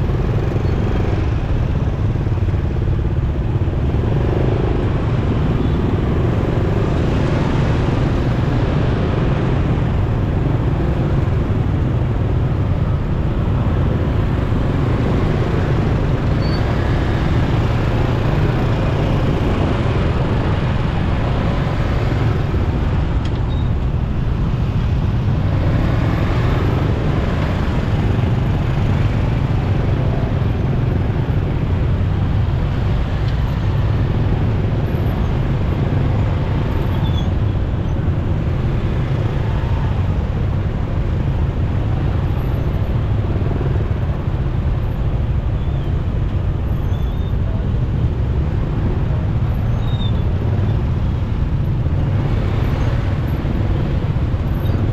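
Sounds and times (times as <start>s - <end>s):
motorcycle engine rumble: 0.0s - 54.9s
surrounding traffic: 0.0s - 54.9s.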